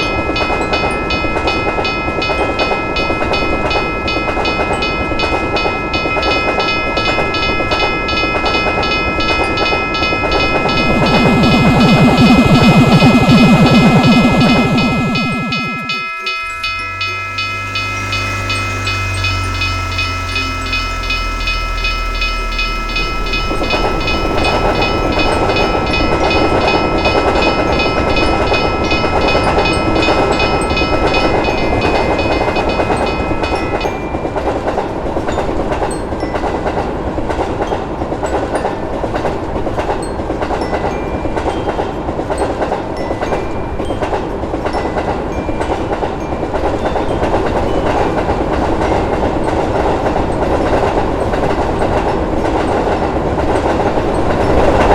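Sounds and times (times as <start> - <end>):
railroad crossing bell ringing: 0.0 - 54.9
train wheels clacking on rails: 0.0 - 54.9.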